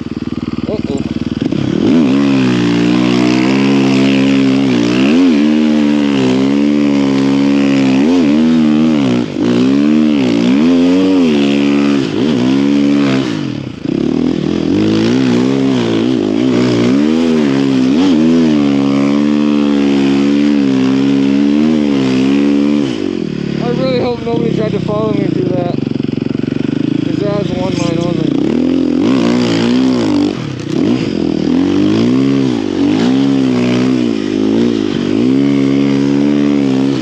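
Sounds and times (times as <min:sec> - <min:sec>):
snow bike engine revving: 0:00.0 - 0:37.0.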